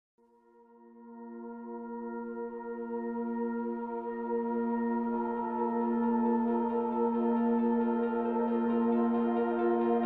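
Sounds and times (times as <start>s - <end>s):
ambient drone music: 0.2s - 10.0s.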